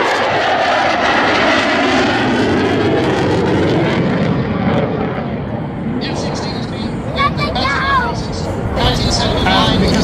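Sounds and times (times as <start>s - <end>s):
fighter jet flying past: 0.0s - 10.0s.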